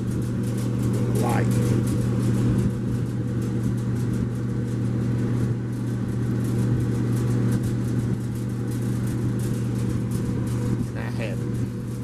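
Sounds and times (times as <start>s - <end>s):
dryer motor and fan humming: 0.0s - 12.0s.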